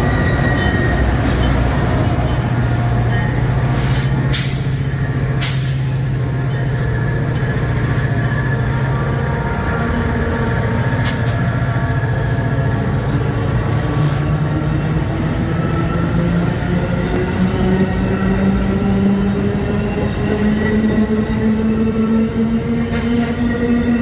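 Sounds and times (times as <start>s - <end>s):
train rumbling by: 0.0s - 24.0s.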